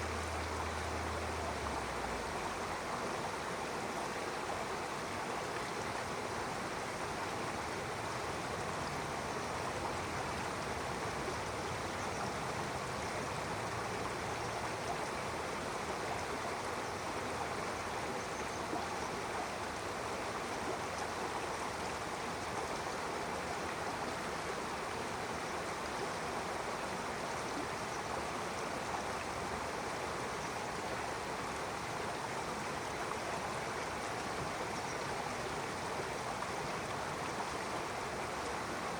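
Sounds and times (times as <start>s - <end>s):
stream water flowing over rocks: 0.0s - 38.9s.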